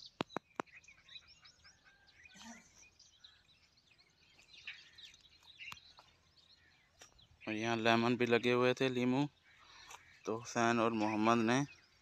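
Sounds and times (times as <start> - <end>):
faint birdsong chirps: 0.0 - 12.0.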